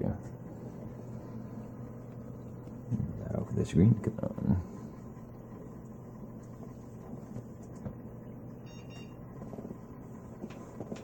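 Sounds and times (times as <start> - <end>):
computer humming: 0.0 - 11.0.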